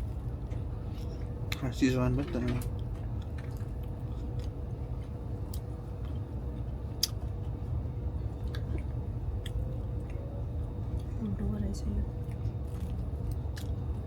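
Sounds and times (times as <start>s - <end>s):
train carriage hum: 0.0s - 14.0s
chewing food: 2.6s - 14.0s.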